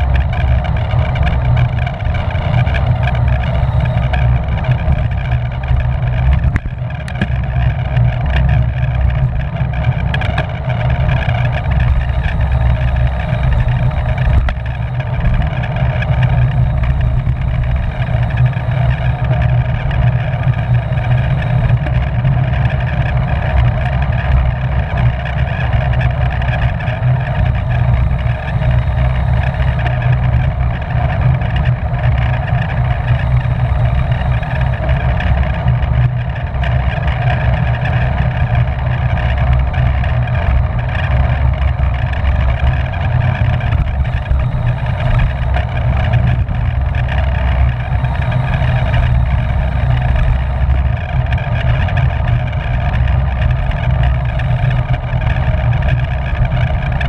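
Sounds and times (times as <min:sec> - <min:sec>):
bicycle tyres and drivetrain hum: 0:00.0 - 0:57.0
wind rush on microphone: 0:00.0 - 0:57.0.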